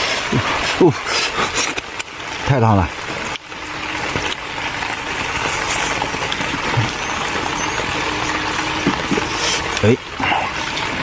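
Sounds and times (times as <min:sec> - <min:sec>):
heavy rain on a tent: 0:00.0 - 0:11.0.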